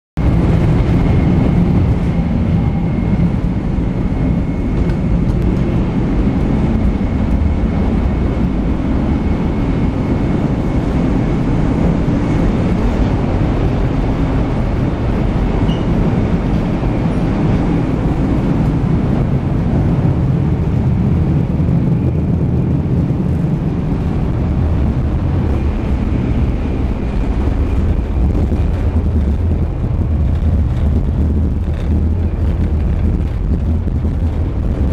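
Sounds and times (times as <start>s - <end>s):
train rumble from inside: 0.2s - 34.9s.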